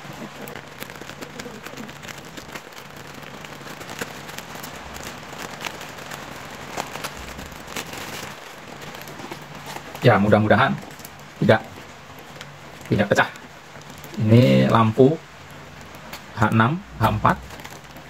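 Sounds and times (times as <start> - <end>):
scissors cutting plastic: 0.0 - 16.4, 17.0 - 18.0
plastic bag crinkling: 0.0 - 18.0.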